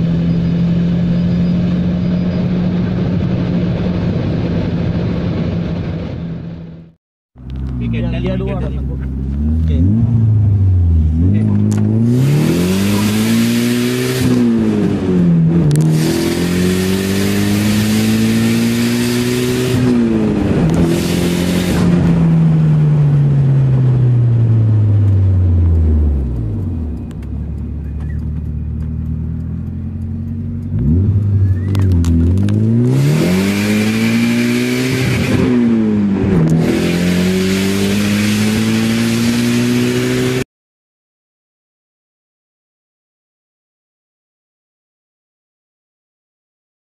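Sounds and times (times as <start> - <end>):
car engine accelerating: 0.0 - 40.4.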